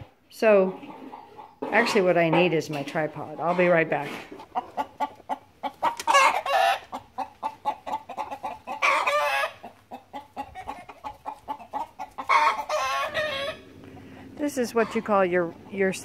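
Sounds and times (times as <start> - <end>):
chickens clucking: 0.0 - 16.0
loud wavering chicken calls: 0.7 - 2.6, 3.3 - 15.8.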